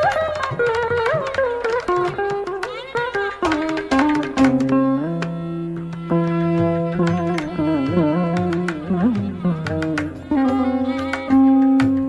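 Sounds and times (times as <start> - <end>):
ornamented melody over held notes: 0.0 - 12.0
tabla strokes: 0.0 - 12.0.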